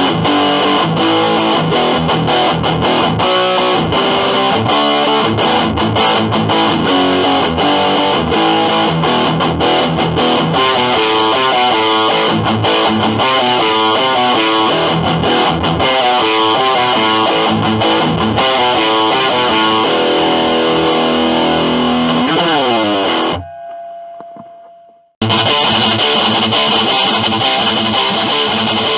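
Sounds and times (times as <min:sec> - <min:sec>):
distorted electric guitar riffing: 0:00.0 - 0:28.9.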